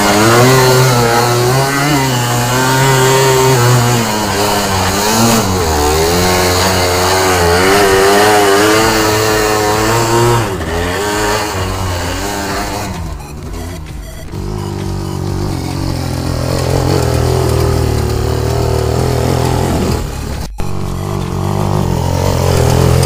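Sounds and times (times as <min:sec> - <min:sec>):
quad engine revving: 0:00.0 - 0:23.0.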